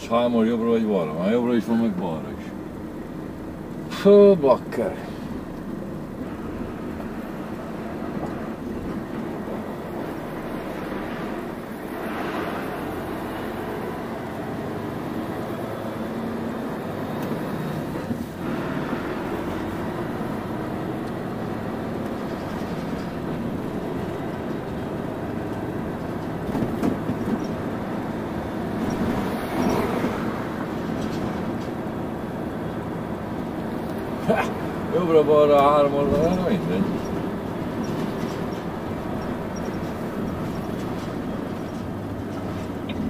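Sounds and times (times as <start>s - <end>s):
road and rolling noise: 0.0s - 43.0s
truck diesel engine running: 0.0s - 43.0s.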